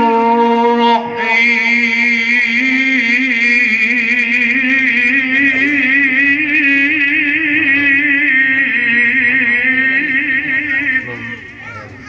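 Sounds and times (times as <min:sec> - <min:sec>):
man chanting recitation: 0:01.1 - 0:12.0.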